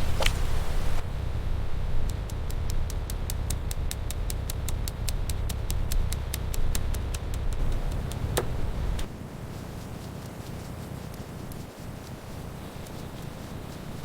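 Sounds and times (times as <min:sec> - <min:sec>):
steady low rumble: 0:00.0 - 0:14.0
rapid even clicking: 0:02.0 - 0:14.0.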